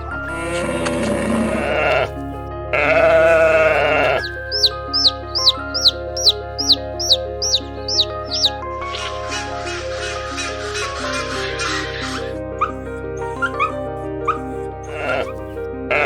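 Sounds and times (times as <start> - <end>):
farm animal bleating: 0.0 - 9.1, 11.3 - 16.0
background music: 0.0 - 16.0.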